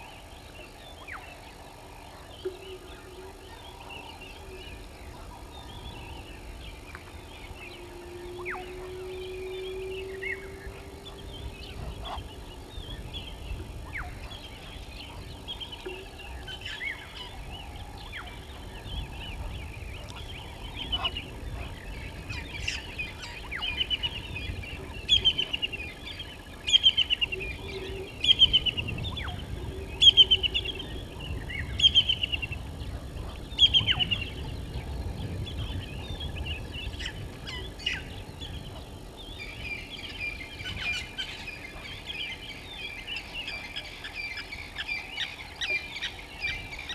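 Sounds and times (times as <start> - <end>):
faint bird chatter: 0.0 - 46.9.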